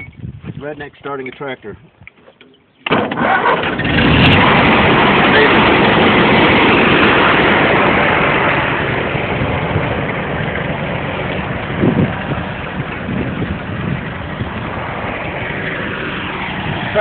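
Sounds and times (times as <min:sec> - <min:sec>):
engine running: 0:02.9 - 0:17.0.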